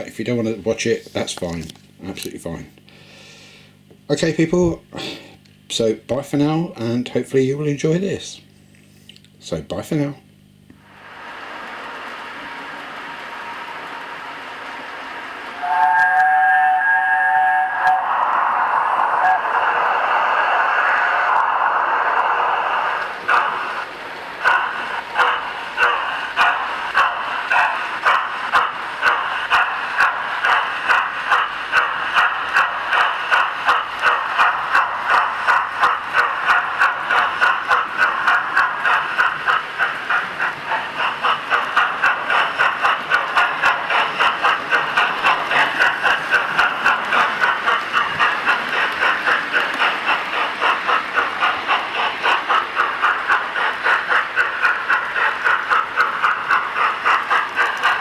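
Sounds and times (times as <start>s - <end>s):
steam locomotive chuffs: 0.0s - 8.4s, 9.4s - 58.0s.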